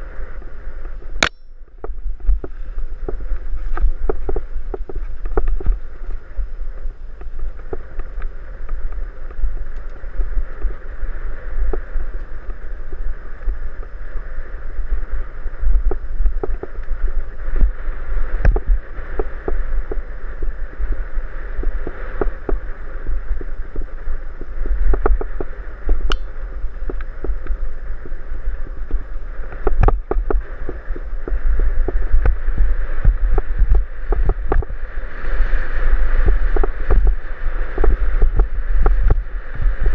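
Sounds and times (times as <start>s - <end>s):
tyres on dirt trail: 0.0s - 39.9s
wind rumble on microphone: 0.0s - 39.9s.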